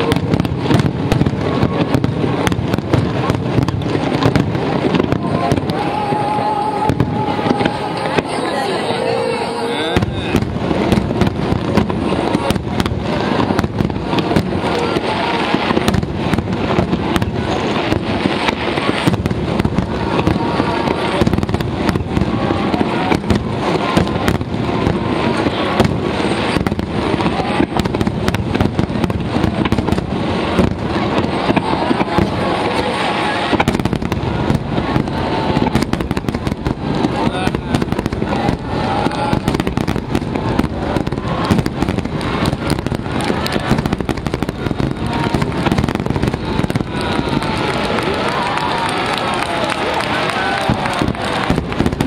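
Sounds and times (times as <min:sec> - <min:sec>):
fireworks bursting: 0:00.0 - 0:52.0.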